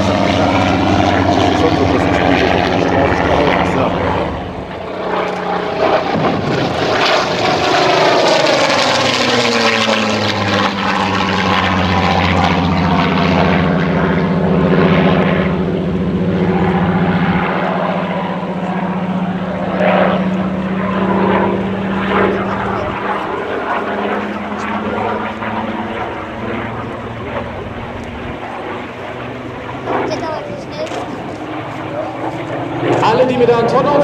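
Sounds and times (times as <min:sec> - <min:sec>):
aircraft engine and propeller drone: 0:00.0 - 0:34.0.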